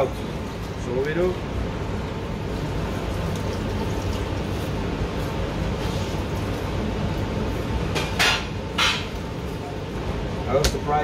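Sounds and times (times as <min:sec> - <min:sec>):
kitchen rumble with hiss: 0:00.0 - 0:11.0.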